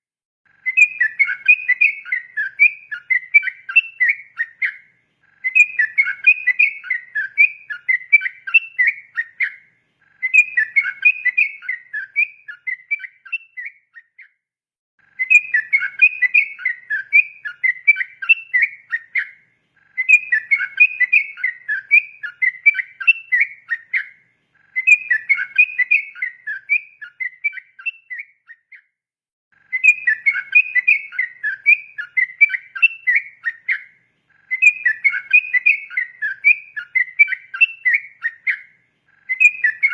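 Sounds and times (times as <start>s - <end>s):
bulbul singing whistled phrases: 0.5s - 14.4s, 15.0s - 29.0s, 29.6s - 39.9s.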